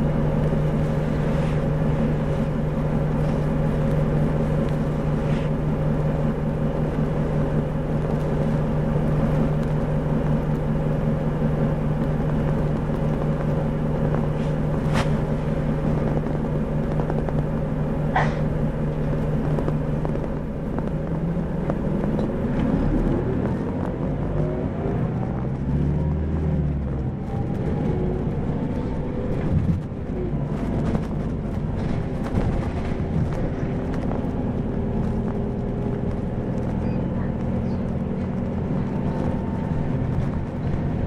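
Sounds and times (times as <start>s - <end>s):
bus diesel engine: 0.0s - 41.0s
drivetrain whine: 0.0s - 41.0s.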